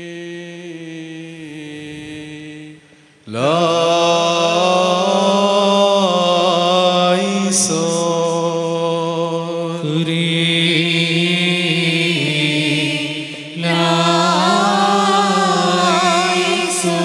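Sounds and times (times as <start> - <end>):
man chanting over loudspeakers: 0.0 - 17.0.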